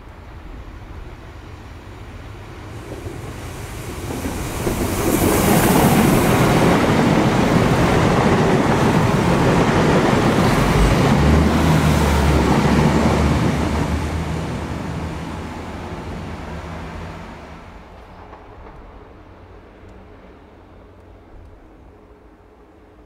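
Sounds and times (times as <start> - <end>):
train passing at speed: 0.0 - 23.0.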